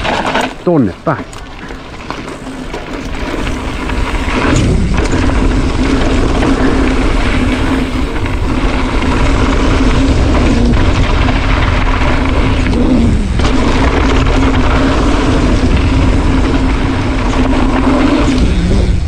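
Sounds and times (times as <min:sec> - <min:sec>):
bike tyre rumble over dirt: 0:00.0 - 0:19.0
wind on microphone: 0:03.0 - 0:19.0.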